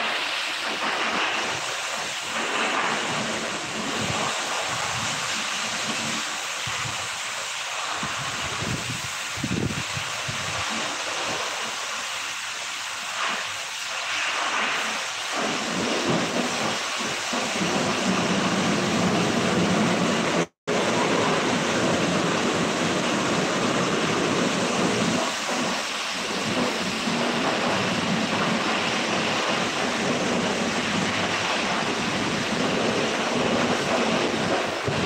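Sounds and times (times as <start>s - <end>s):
pressure washer spraying water: 0.0s - 35.0s.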